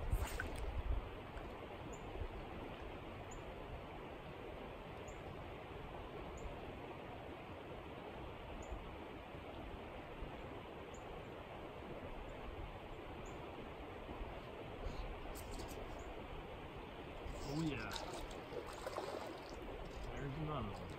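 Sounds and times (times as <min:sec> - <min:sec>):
creek water rushing: 0:02.5 - 0:20.9.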